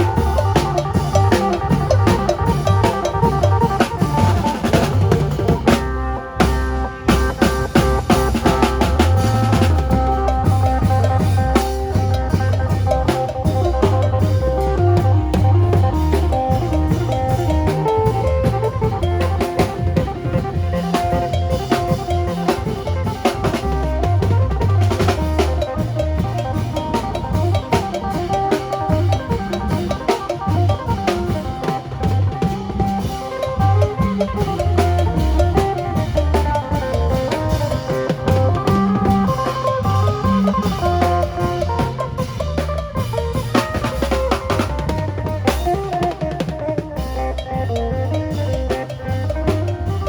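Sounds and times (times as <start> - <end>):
drum kit playing: 0.0 - 50.0.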